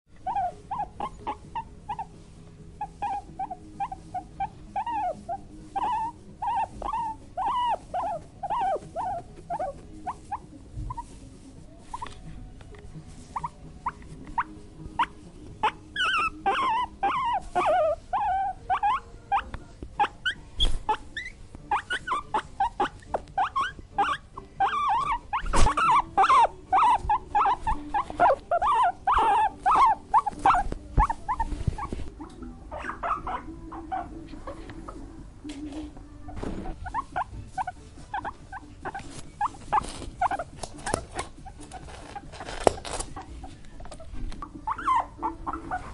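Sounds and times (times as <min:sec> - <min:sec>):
guinea pig squeaking: 0:00.2 - 0:45.9.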